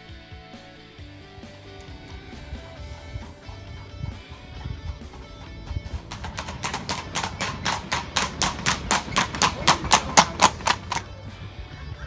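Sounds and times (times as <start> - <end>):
horse hooves on brick: 1.1 - 12.0.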